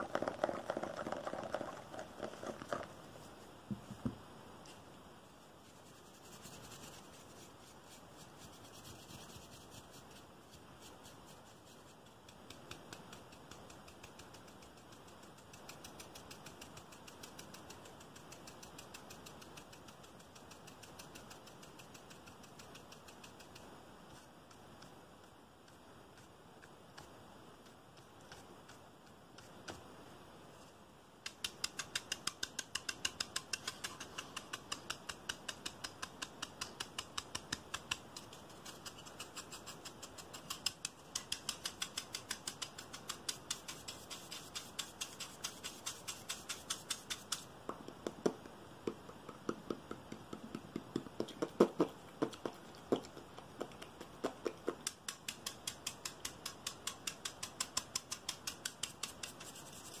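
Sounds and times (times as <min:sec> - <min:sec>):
brush scratching a rope-wrapped stick: 0:00.0 - 0:03.6, 0:04.7 - 0:29.8, 0:30.6 - 0:47.5, 0:54.8 - 1:00.0.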